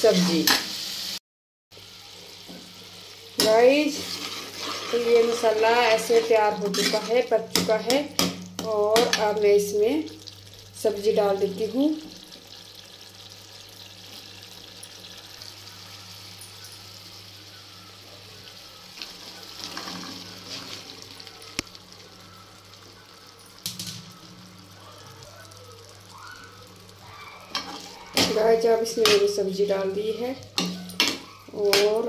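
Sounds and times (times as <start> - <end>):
sauce simmering and sizzling: 1.8 - 32.0.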